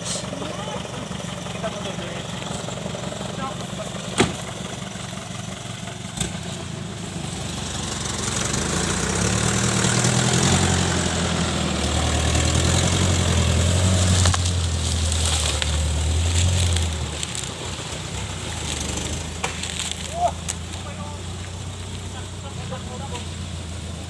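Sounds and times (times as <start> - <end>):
diesel engine droning under load: 0.0 - 24.0.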